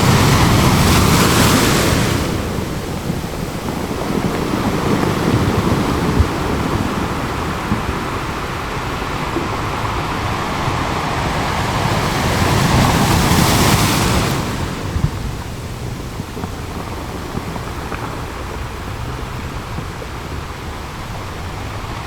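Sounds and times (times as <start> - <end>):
ocean surf washing onto beach: 0.0 - 22.0
wave breaking: 0.0 - 22.0.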